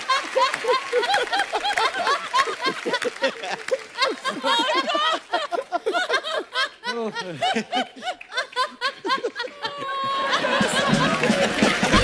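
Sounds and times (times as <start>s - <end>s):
person laughing: 0.9s - 12.0s.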